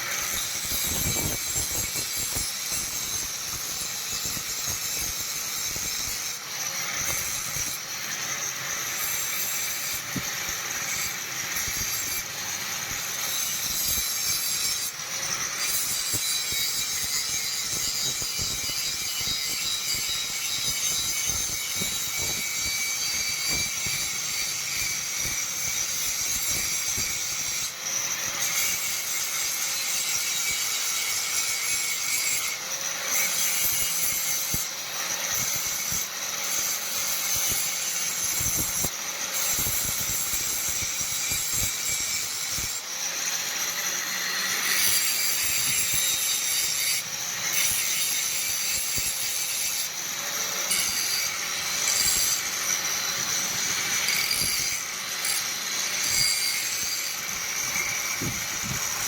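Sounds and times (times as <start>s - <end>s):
abrasive tool scraping metal: 0.0s - 59.0s.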